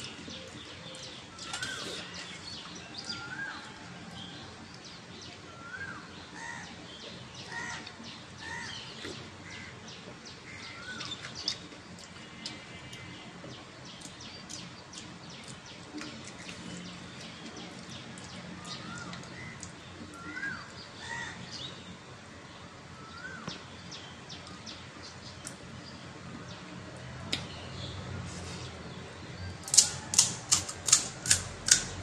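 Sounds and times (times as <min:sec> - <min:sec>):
small birds chirping: 0:00.0 - 0:31.1.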